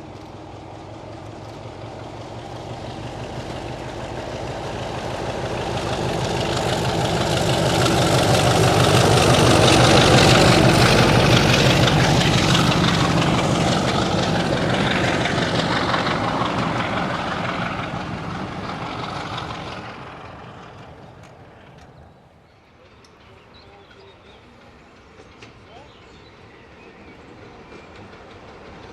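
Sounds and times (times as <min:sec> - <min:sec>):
diesel locomotive passing: 0:00.0 - 0:28.9.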